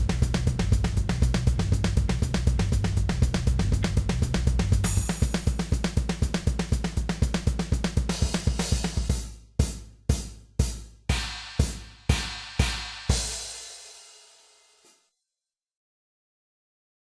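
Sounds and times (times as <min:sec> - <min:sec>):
drum kit with cymbals: 0:00.0 - 0:15.2.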